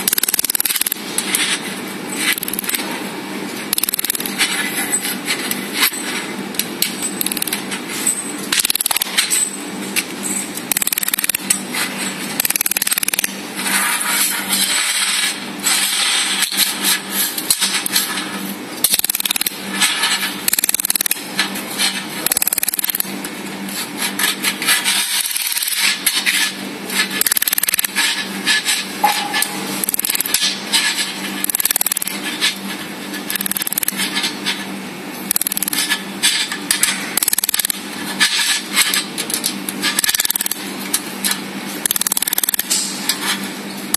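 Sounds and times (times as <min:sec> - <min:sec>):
machine humming: 0:00.0 - 0:43.9
metallic clicks and scrapes: 0:00.0 - 0:43.9.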